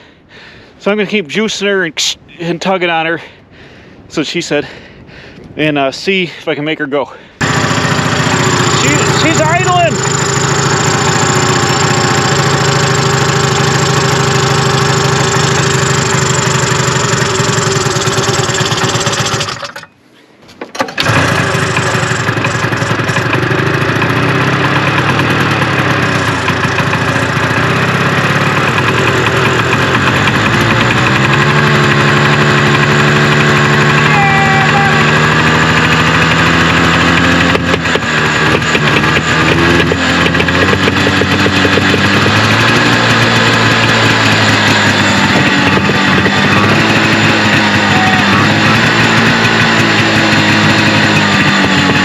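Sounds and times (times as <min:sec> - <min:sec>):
two-stroke snowmobile engine running: 0:07.4 - 0:19.9, 0:20.8 - 0:52.0.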